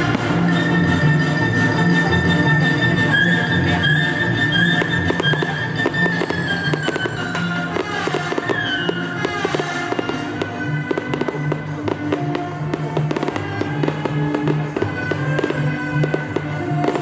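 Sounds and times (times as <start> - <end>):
fireworks bangs and crackles: 0.0 - 17.0
music with sustained notes: 0.0 - 17.0.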